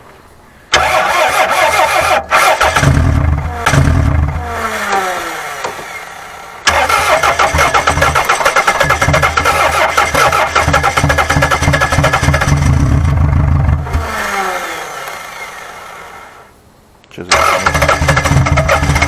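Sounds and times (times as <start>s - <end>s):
car engine cranking: 0.7s - 16.3s, 17.3s - 19.0s
falling starter whine: 0.7s - 16.6s, 17.3s - 19.0s.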